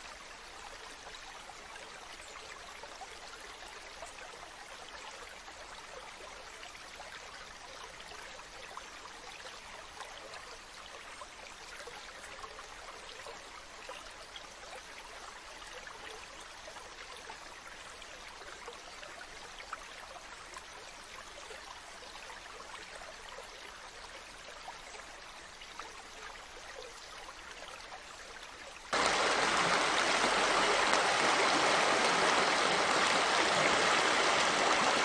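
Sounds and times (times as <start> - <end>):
stream flowing over rocks: 0.0 - 35.0.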